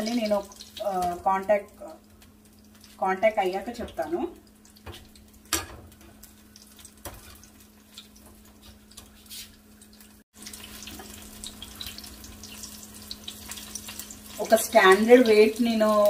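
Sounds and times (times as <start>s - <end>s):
chillies frying in hot oil: 0.0s - 16.0s.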